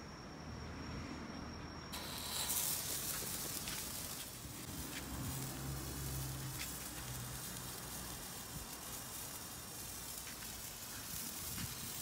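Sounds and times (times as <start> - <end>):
firework crackles: 1.9 - 12.0
firework hissing: 1.9 - 12.0.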